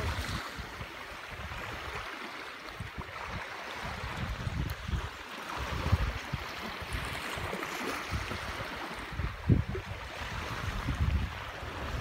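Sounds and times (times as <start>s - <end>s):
wind buffeting microphone: 0.0s - 2.1s, 2.7s - 12.0s
small waves washing on shore: 0.0s - 12.0s.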